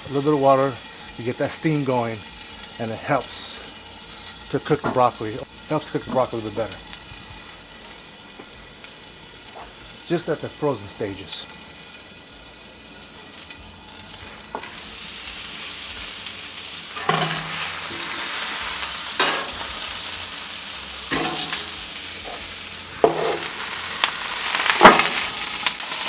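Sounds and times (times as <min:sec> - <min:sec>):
vegetables sizzling on a griddle: 0:00.0 - 0:26.0.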